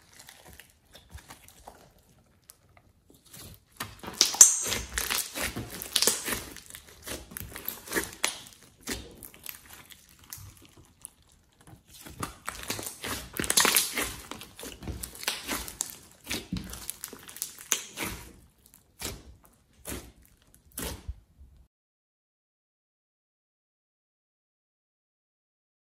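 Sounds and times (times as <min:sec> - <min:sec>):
slime squishing and crackling: 0:00.0 - 0:21.4.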